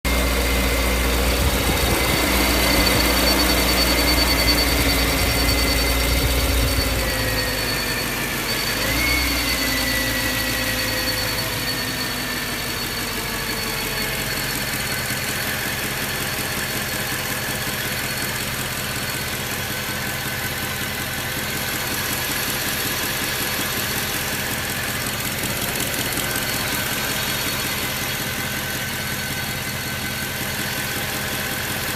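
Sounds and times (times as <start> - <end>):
car engine idling: 0.1 - 31.9.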